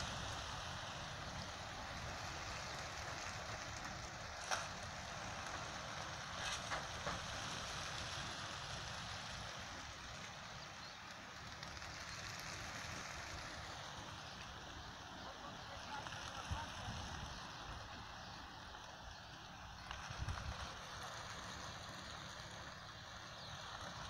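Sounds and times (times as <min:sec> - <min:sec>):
pigeon flock wingbeats: 0:00.0 - 0:24.0.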